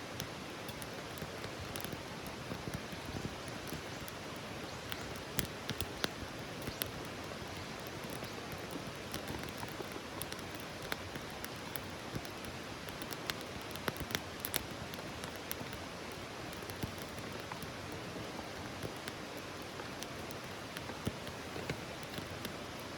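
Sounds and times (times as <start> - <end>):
campfire crackling and popping: 0.0 - 22.9
fire hissing: 0.1 - 22.9.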